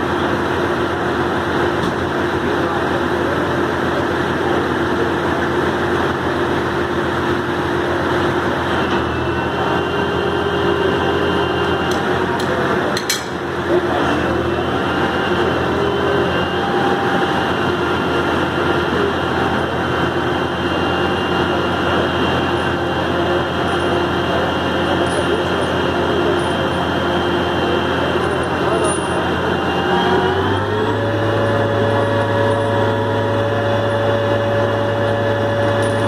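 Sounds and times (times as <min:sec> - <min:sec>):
heavy truck engine running: 0:00.0 - 0:36.0.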